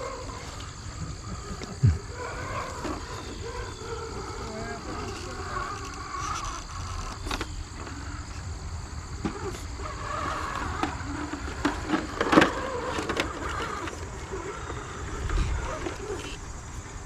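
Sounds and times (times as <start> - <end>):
small electric motor whirring: 0.0 - 8.6, 9.2 - 17.0.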